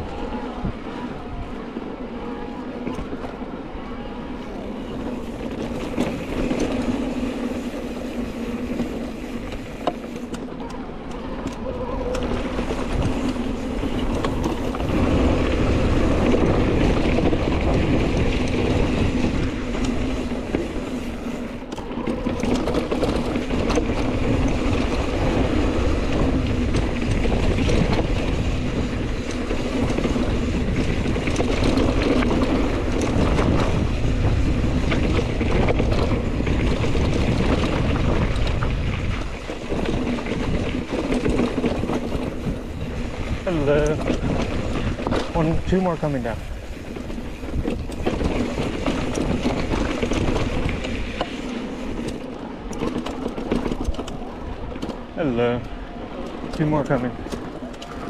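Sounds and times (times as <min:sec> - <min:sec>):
wind on microphone: 0:00.0 - 0:03.2, 0:11.4 - 0:58.0
bike tyres on dirt: 0:00.0 - 0:58.0.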